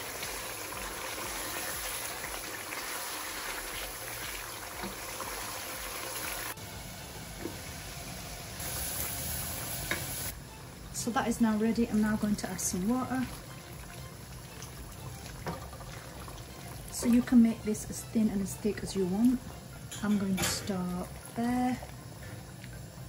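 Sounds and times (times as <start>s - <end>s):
curry sizzling and bubbling: 0.0s - 23.0s.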